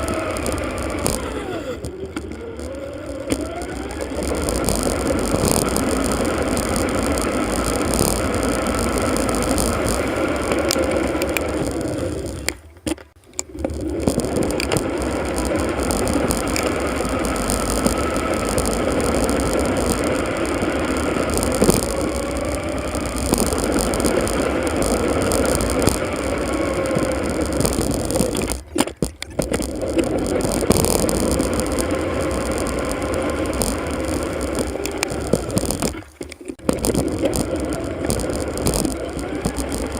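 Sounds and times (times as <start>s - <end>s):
faint wavering whine: 0.0s - 12.7s, 13.5s - 39.9s
road and wind noise: 0.0s - 39.9s.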